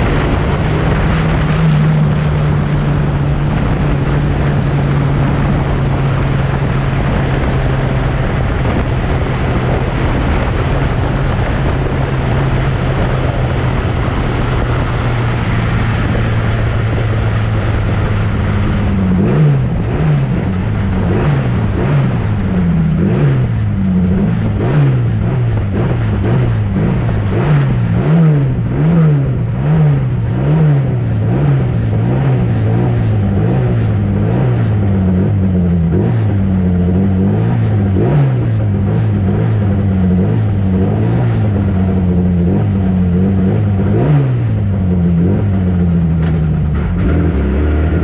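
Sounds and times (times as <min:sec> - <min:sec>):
racing car engines revving: 0:00.0 - 0:48.0.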